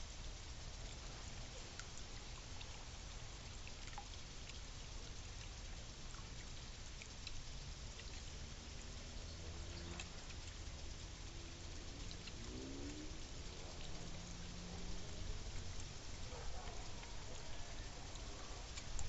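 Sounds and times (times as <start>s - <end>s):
sharp drips: 0.0s - 19.0s
steady rain hiss: 0.0s - 19.0s.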